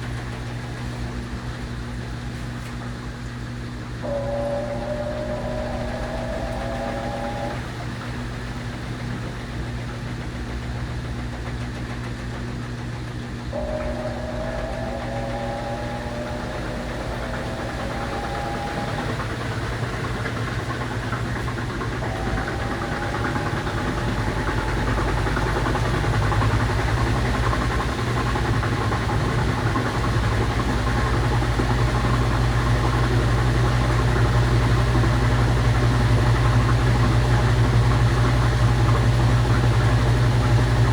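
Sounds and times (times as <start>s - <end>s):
washing machine motor whine: 0.0s - 40.9s.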